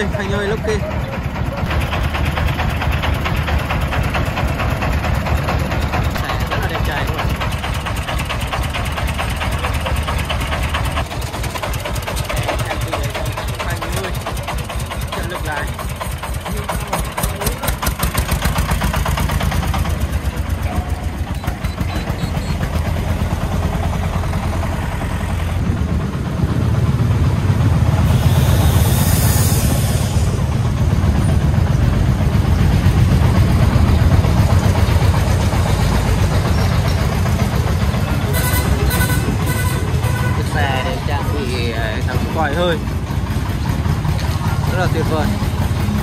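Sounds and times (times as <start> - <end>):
diesel engine chugging: 0.0 - 46.0.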